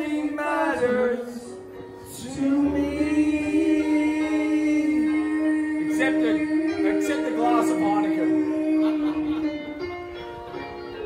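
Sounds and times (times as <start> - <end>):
man singing karaoke: 0.0 - 9.7
backing music: 0.0 - 11.0.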